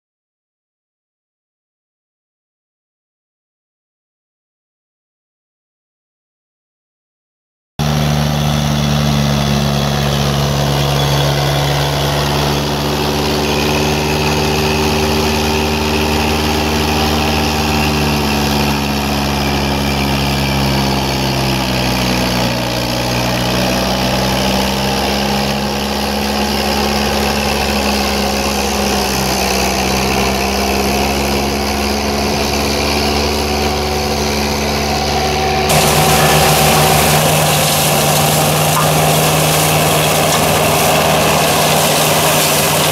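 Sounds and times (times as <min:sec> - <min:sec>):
mulcher engine running: 0:07.8 - 0:42.9.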